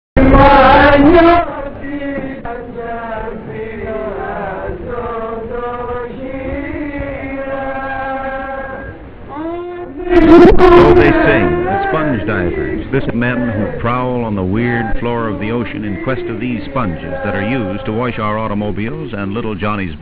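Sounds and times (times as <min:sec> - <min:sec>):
men singing slow chant-like song: 0:00.2 - 0:09.1, 0:10.0 - 0:19.1.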